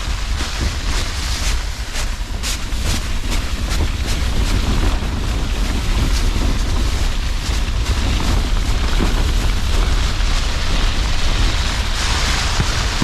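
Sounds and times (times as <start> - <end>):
storm wind buffeting tent: 0.0 - 13.0.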